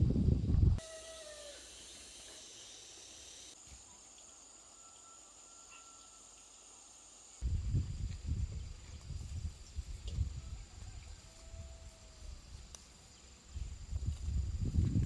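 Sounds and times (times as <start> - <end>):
faint outdoor hiss: 0.8 - 15.0
insects buzzing: 0.8 - 15.0.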